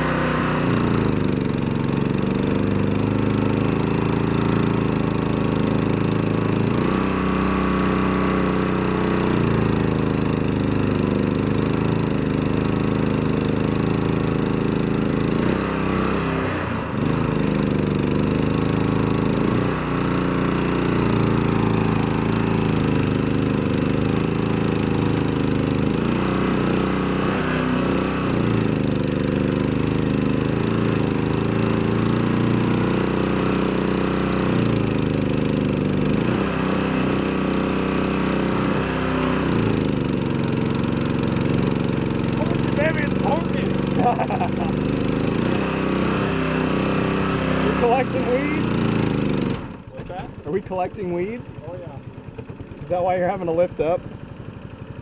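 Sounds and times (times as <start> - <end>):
mud motor running under load: 0.0 - 55.0.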